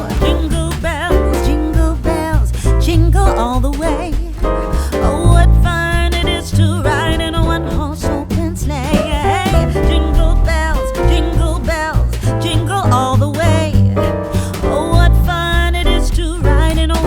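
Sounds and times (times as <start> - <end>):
song with vocals and beat: 0.0 - 17.0.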